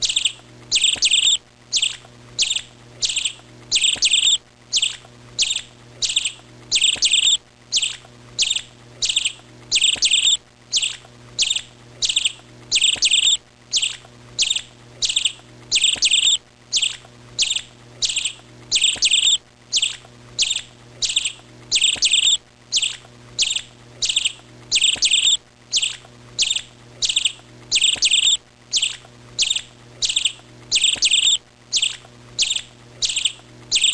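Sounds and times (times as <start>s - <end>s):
bird chirping: 0.0s - 33.9s
faint low hum: 0.0s - 33.9s.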